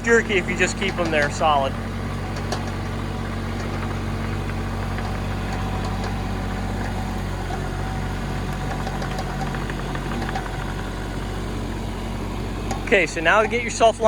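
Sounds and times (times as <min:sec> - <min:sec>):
diesel engine running: 0:00.0 - 0:14.0
faint clicks: 0:00.2 - 0:13.0.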